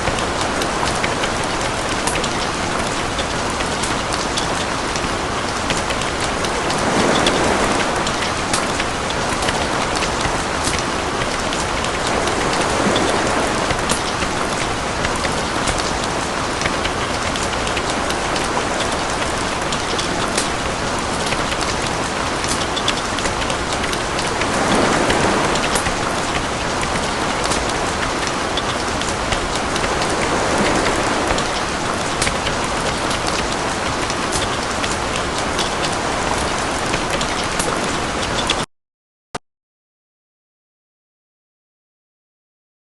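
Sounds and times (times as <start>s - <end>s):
steady rain falling: 0.0s - 38.7s.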